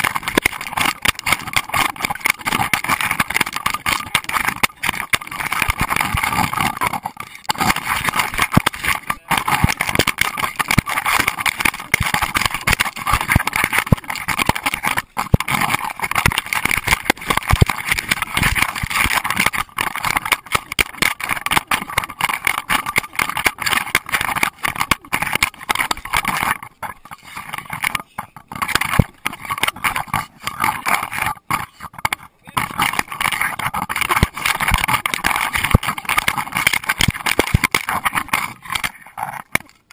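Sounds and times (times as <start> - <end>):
camera housing rubbing and knocking: 0.0 - 39.9.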